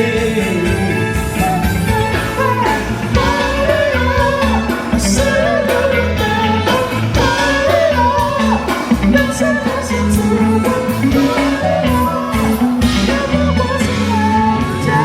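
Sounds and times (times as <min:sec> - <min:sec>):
pop music with singing: 0:00.0 - 0:15.0.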